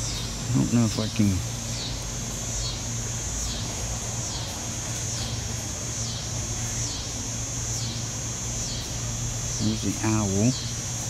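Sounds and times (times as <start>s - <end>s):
insects buzzing: 0.0s - 11.0s
low steady hum: 0.0s - 11.0s.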